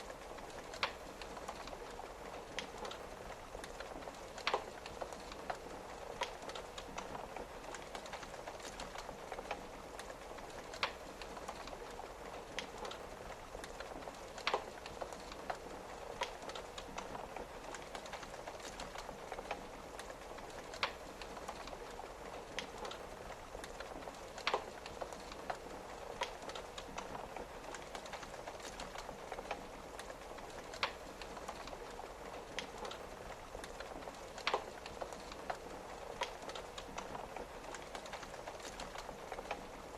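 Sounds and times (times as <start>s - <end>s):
rain pattering on a window: 0.0s - 39.9s
wood fire crackling and popping: 0.0s - 39.9s.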